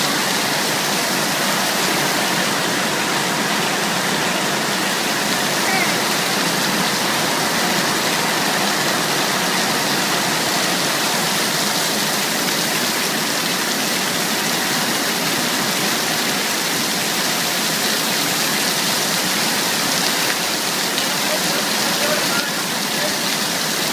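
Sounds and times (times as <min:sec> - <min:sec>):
heavy rain: 0:00.0 - 0:23.9.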